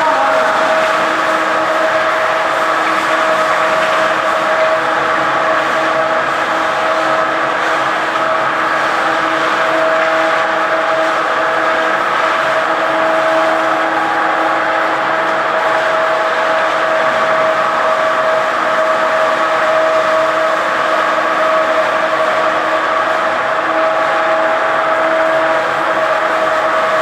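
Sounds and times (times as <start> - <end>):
machine whine over rushing noise: 0.0 - 27.0.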